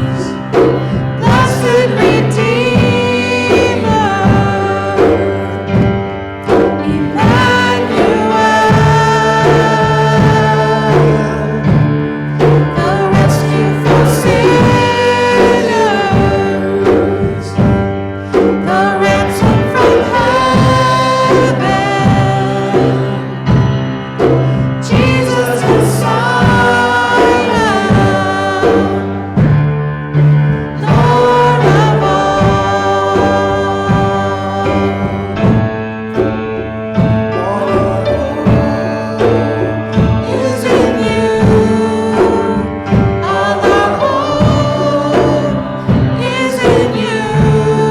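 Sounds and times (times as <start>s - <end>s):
held low notes: 0.0s - 47.9s
voices singing worship song: 0.0s - 47.9s.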